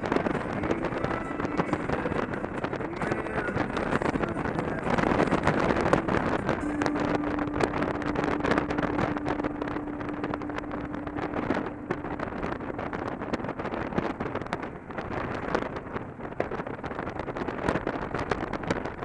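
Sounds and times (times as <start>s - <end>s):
steady hum-like tone: 0.0s - 17.2s
motorcycle engine running: 0.0s - 19.0s
wind buffeting microphone: 0.0s - 19.0s.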